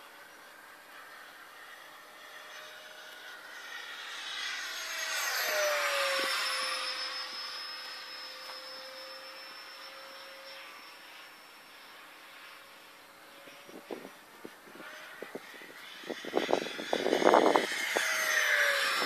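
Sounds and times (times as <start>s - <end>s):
model jet fan whining fly-by: 0.0s - 19.0s.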